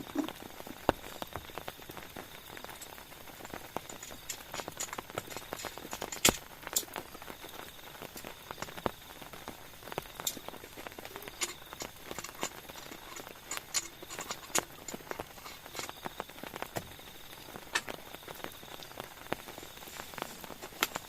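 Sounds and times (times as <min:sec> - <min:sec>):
raindrops tapping on tarp: 0:00.0 - 0:21.0.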